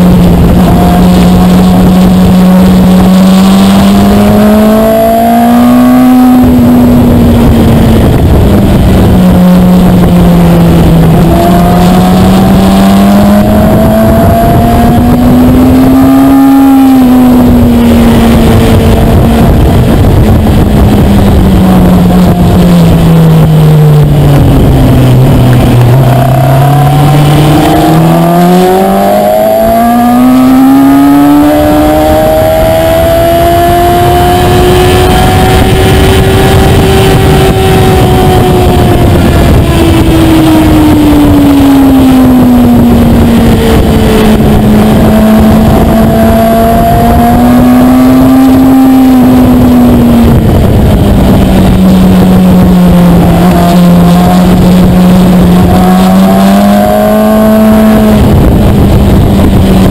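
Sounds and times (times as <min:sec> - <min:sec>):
motorcycle engine at speed: 0:00.0 - 0:59.9
wind rush: 0:00.0 - 0:59.9.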